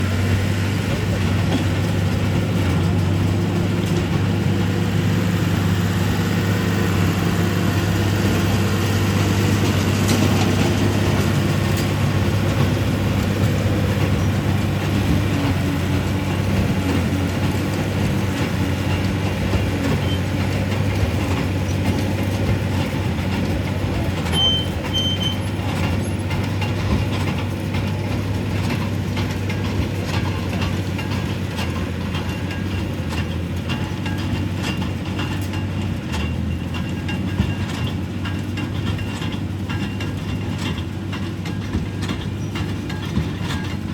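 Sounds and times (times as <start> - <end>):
baler machinery noise: 0.0 - 43.9
tractor engine drone: 0.0 - 43.9.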